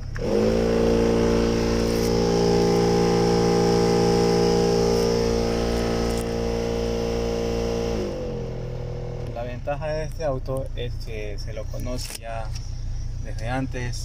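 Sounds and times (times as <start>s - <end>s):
blower fan droning hum: 0.0s - 14.0s.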